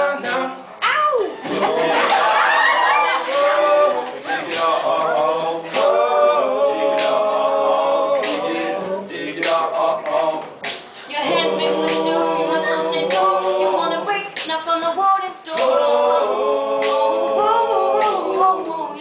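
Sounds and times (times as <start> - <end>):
male choir singing in harmony: 0.0 - 0.6, 1.4 - 14.4, 15.5 - 19.0.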